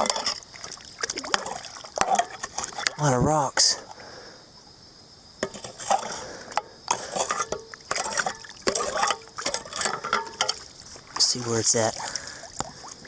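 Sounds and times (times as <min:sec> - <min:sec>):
water sloshing: 0:00.0 - 0:04.1, 0:05.4 - 0:13.0.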